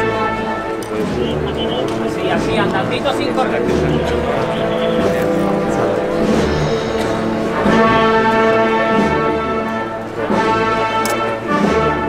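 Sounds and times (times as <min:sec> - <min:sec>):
brass band playing slow march: 0:00.0 - 0:12.0.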